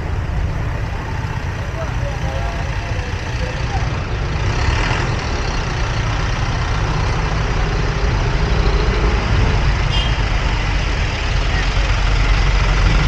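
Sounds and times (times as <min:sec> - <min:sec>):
traffic engine and road noise: 0:00.0 - 0:13.0.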